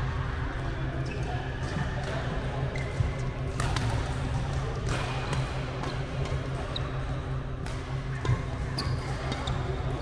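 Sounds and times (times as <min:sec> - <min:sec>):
steady low hall hum: 0:00.0 - 0:10.0.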